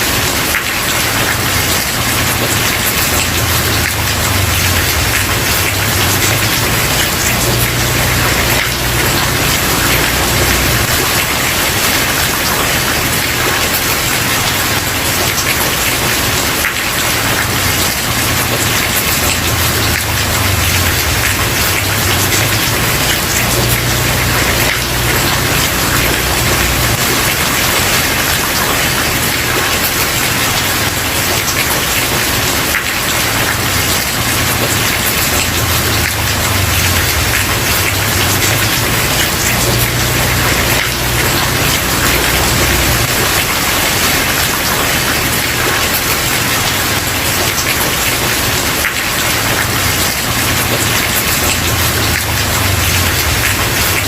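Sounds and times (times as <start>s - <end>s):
heavy rain on wooden porch: 0.0s - 54.0s.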